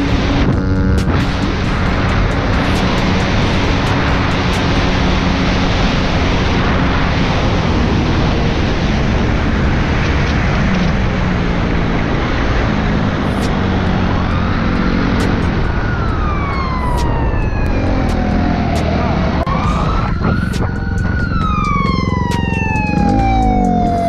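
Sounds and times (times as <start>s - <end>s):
dirt bike engine running: 0.0s - 17.0s, 20.2s - 24.0s
wind rush on microphone: 0.0s - 23.9s
siren wailing: 0.0s - 24.0s.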